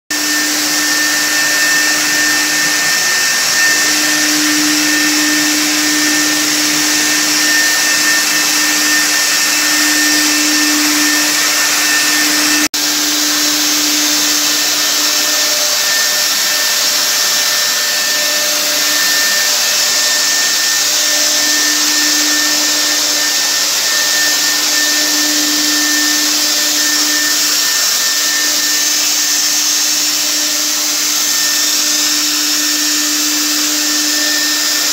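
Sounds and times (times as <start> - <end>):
fogger blower hissing: 0.1 - 34.9.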